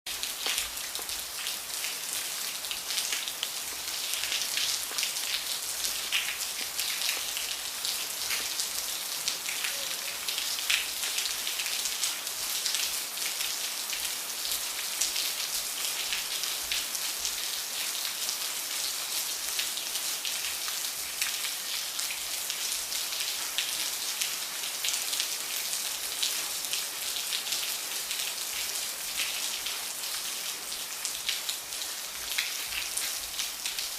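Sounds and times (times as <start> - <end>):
rain pattering on a surface: 0.1 - 33.9.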